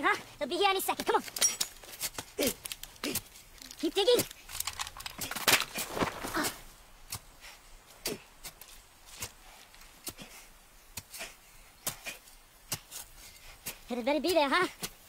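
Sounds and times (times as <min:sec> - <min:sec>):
hands scraping in loose earth: 0:00.8 - 0:15.0.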